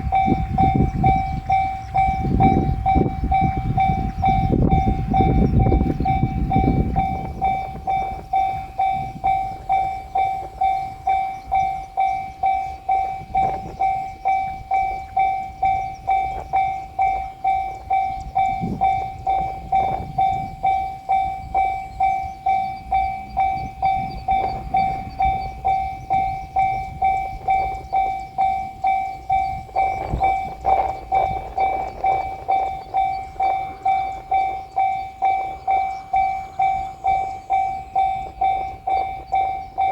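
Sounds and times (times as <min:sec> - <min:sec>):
crossing warning bell ringing: 0:00.0 - 0:39.9
train rumble: 0:00.0 - 0:39.9.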